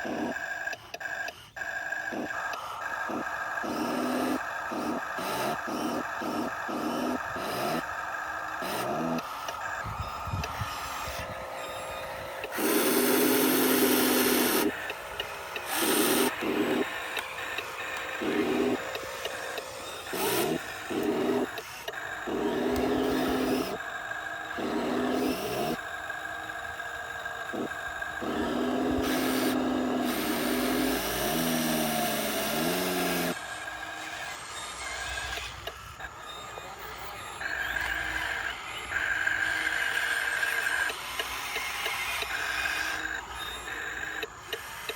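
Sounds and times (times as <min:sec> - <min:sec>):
electric motors and gears whirring: 0:00.0 - 0:44.9.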